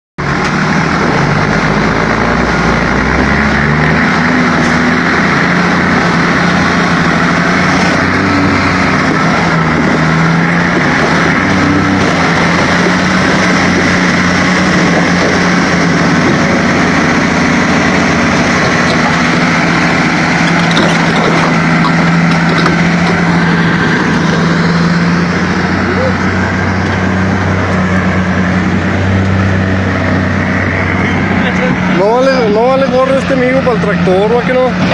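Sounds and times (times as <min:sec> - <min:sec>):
heavy diesel engine under load: 0:00.2 - 0:34.9.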